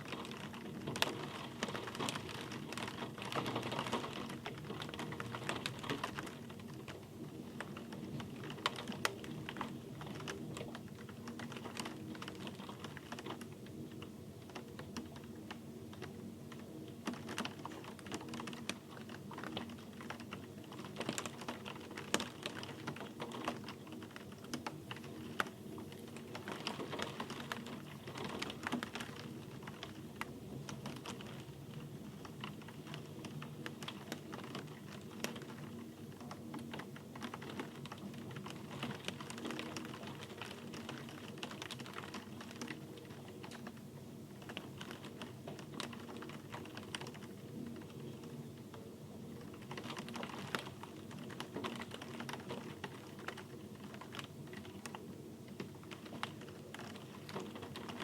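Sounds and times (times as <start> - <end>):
rain drops on hard surface: 0.0 - 58.0.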